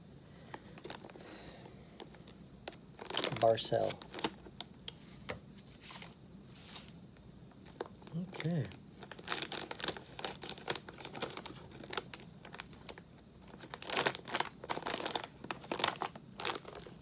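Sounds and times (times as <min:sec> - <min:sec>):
plastic snack bag crackling: 0:00.4 - 0:04.7, 0:07.6 - 0:17.0.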